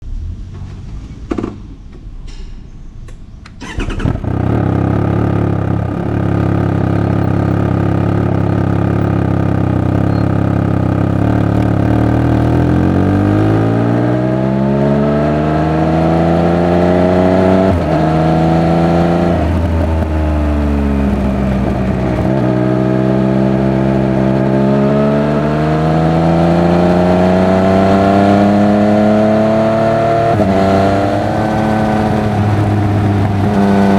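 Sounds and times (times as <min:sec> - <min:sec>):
motorcycle engine starting and revving: 0:00.0 - 0:33.9.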